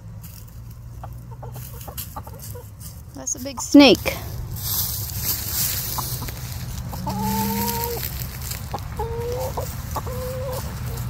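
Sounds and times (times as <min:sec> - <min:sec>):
chickens clucking: 0:00.9 - 0:11.0
drawn-out chicken calls: 0:00.9 - 0:11.0.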